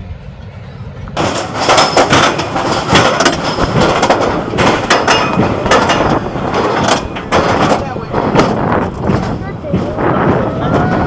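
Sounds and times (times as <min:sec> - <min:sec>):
roller coaster rattling on track: 0:00.0 - 0:11.0
rushing wind: 0:00.0 - 0:11.0.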